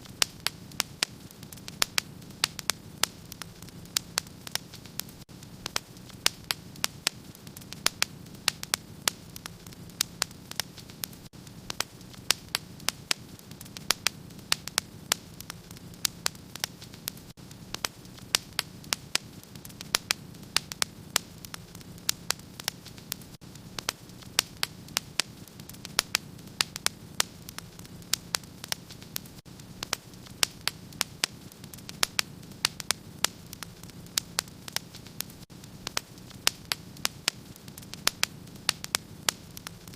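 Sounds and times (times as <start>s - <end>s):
low hiss of fire: 0.0s - 39.9s
wood fire crackling: 0.0s - 39.9s.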